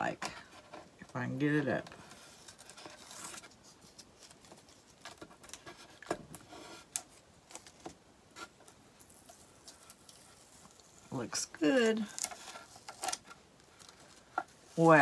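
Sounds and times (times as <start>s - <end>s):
tape peeling rustling and crackling: 1.6s - 15.0s.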